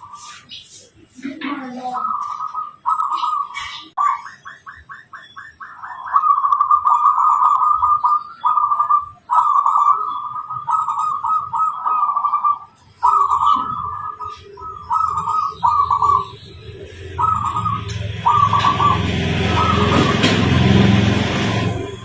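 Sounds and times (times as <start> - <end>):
dove cooing: 1.2 - 22.0.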